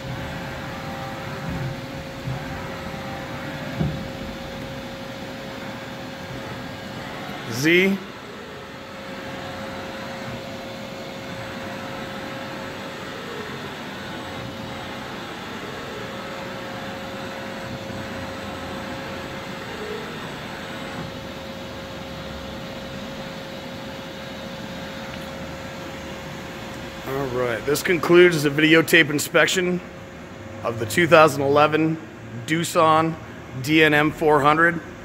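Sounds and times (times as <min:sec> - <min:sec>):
mid-pitched spindle whine: 0:00.0 - 0:29.8
machining center mechanical hum: 0:00.0 - 0:35.0.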